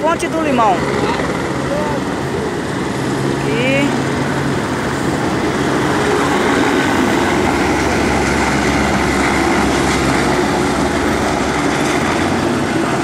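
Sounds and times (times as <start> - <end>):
motor vehicles rumbling: 0.0 - 13.0.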